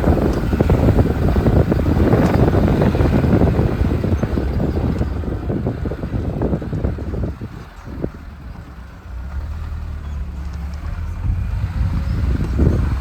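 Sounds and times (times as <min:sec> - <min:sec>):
body and suspension rattling: 0:00.0 - 0:13.0
car engine and road rumble: 0:00.0 - 0:13.0.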